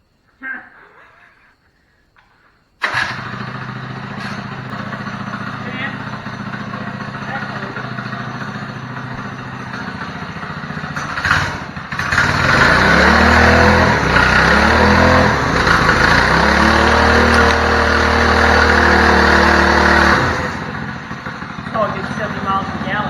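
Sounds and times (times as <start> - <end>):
small motorcycle engine revving: 2.8 - 23.0.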